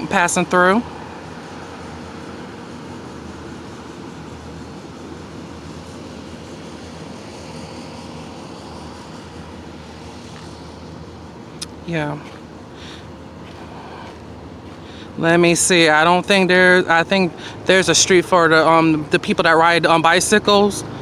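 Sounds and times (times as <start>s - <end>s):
rumble of motor traffic: 0.0s - 21.0s.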